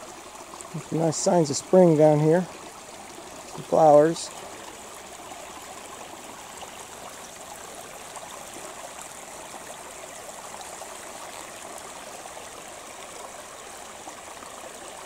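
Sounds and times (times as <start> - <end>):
creek water rushing over stones: 0.0 - 15.0.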